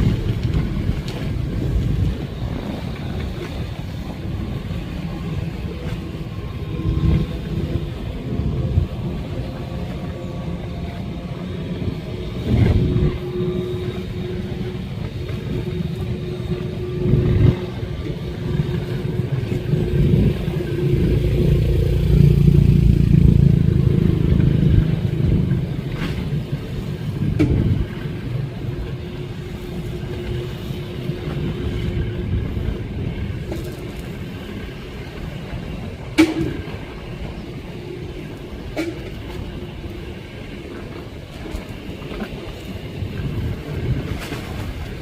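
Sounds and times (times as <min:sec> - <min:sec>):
speedboat engines rumbling: 0:00.0 - 0:45.0.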